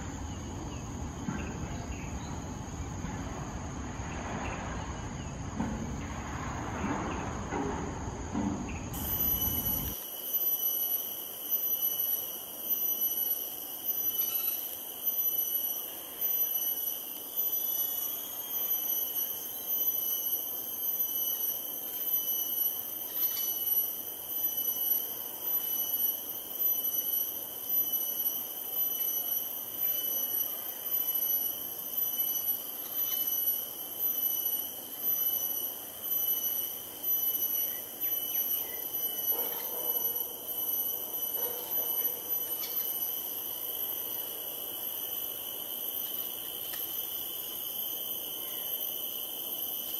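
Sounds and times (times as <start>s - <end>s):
pulsing high-pitched whine: 8.3s - 48.7s.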